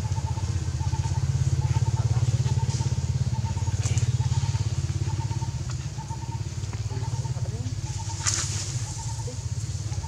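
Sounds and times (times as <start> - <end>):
engine running with low pulse: 0.0 - 10.0.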